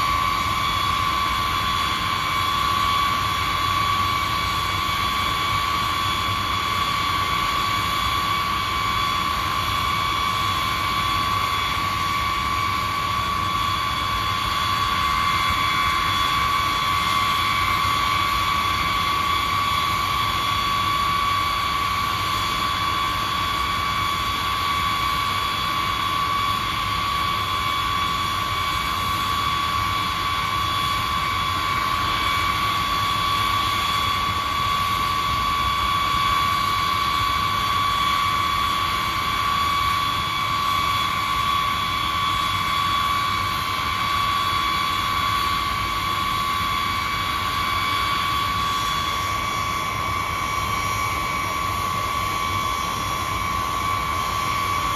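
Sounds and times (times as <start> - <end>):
jet engines whining: 0.0 - 54.9.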